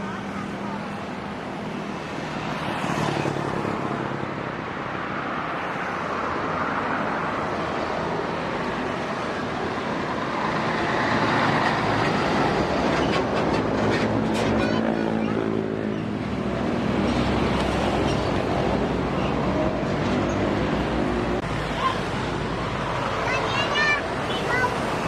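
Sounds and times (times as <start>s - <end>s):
heavy trucks passing: 0.0s - 25.0s.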